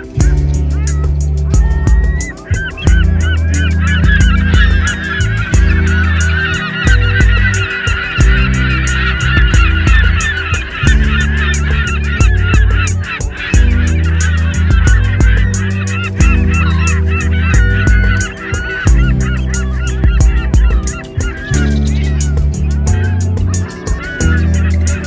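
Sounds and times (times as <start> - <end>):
background music with deep bass: 0.0 - 25.0
flock of birds chirping: 0.0 - 25.0.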